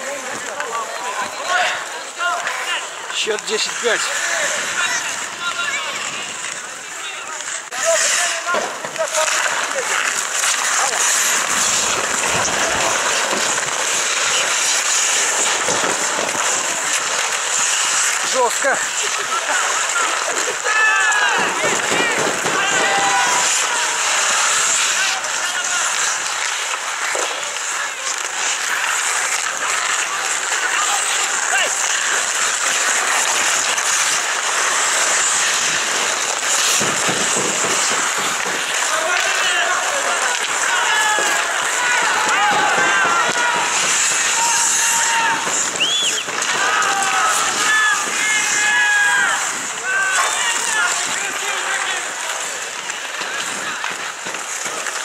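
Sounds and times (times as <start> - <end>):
skates scraping on ice: 0.0 - 55.0.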